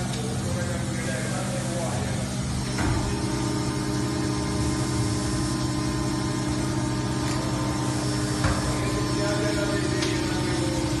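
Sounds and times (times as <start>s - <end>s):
factory machinery humming: 0.0s - 11.0s
steady low tones: 0.0s - 11.0s.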